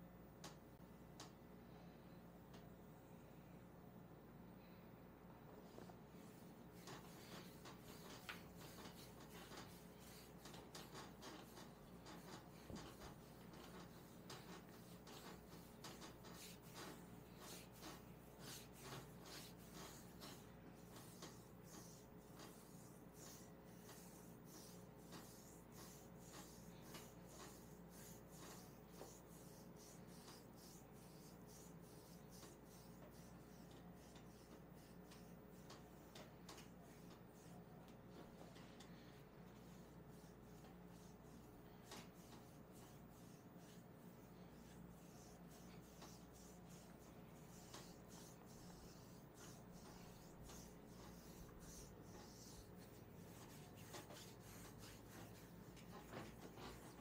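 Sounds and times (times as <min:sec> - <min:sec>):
hands rubbing oiled skin: 0:06.1 - 0:57.0.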